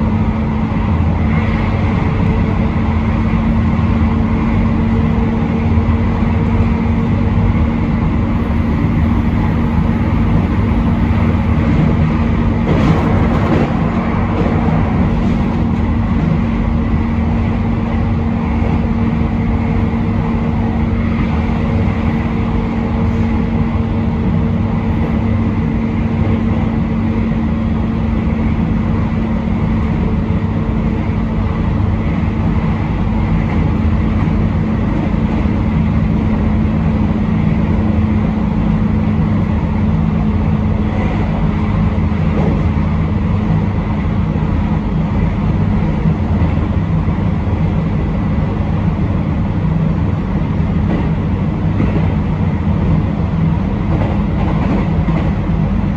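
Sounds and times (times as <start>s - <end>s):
train rumbling from inside: 0.0s - 55.9s.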